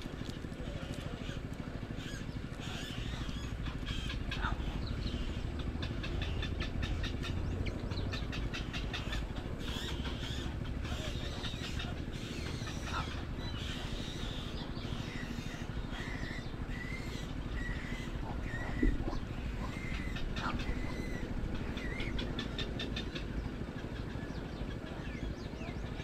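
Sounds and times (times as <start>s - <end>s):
chicks clicking chatter: 0.0s - 26.0s
steady low rumble: 0.0s - 26.0s.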